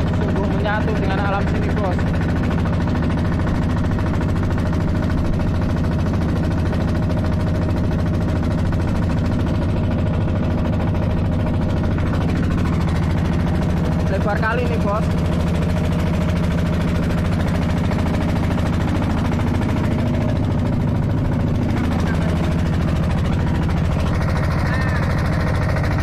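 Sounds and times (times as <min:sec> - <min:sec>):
boat motor drone: 0:00.0 - 0:26.0.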